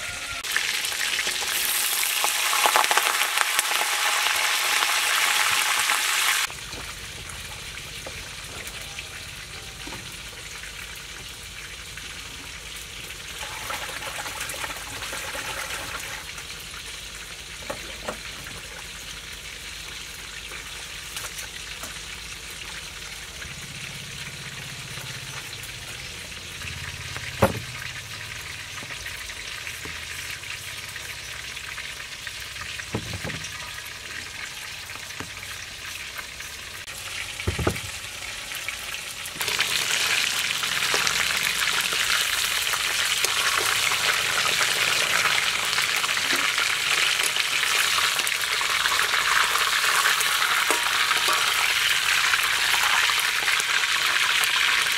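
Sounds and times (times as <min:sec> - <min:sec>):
fish deep-frying in oil: 0:00.0 - 0:54.9.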